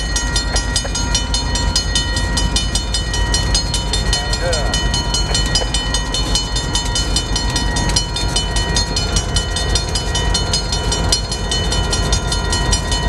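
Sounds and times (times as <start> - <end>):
crossing bell ringing: 0.0 - 13.0
diesel locomotives droning: 0.0 - 13.0.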